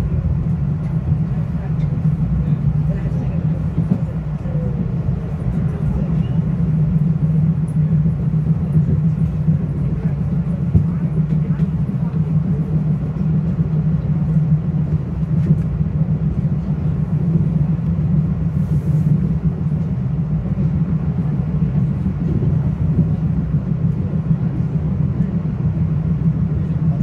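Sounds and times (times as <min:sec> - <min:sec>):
low hum: 0:00.0 - 0:27.0
train wheels rumbling on rails: 0:00.0 - 0:27.0.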